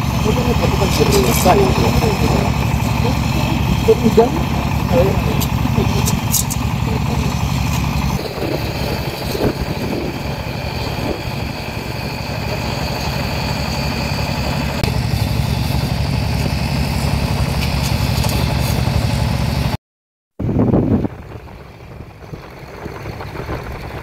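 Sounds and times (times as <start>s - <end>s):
engine idling: 0.0s - 19.8s, 20.4s - 24.0s.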